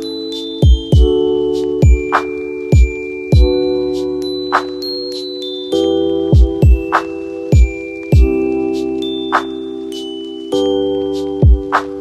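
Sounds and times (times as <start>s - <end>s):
held chord with high ringing note: 0.0s - 12.0s.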